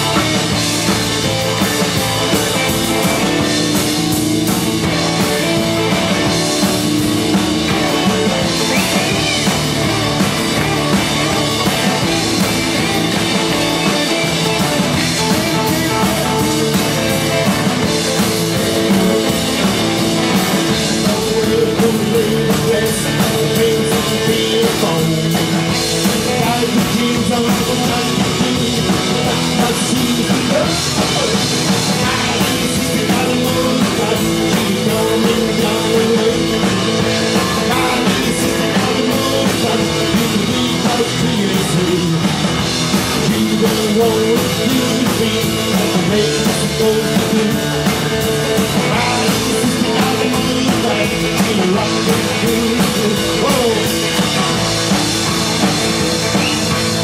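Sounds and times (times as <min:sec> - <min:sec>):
live rockabilly band playing: 0:00.0 - 0:57.0
man singing lead vocal: 0:00.0 - 0:57.0.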